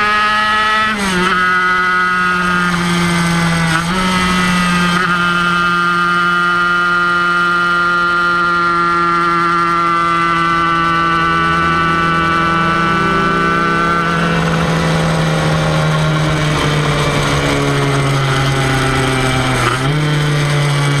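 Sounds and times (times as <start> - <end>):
two-stroke racing engine running: 0.0 - 21.0.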